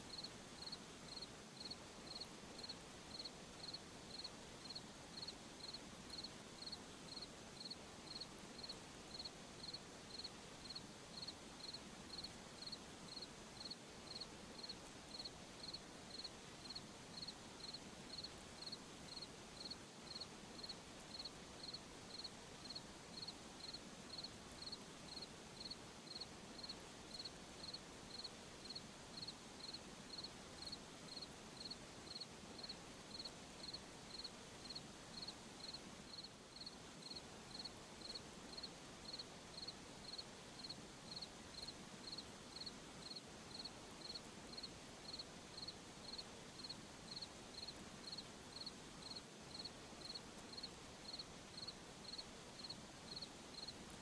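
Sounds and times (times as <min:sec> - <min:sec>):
faint night ambience hiss: 0:00.0 - 0:54.0
cricket chirping: 0:00.1 - 0:53.8.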